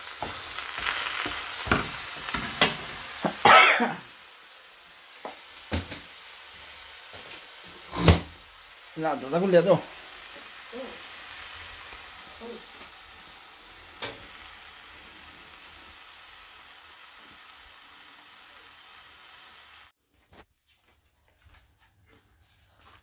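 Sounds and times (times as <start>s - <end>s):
bread sizzling in a frying pan: 0.0s - 20.0s.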